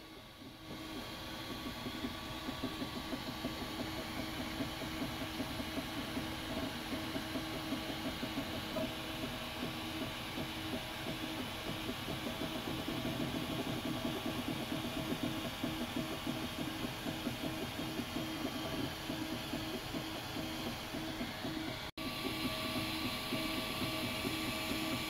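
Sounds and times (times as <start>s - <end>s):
steady whir: 0.0s - 25.0s.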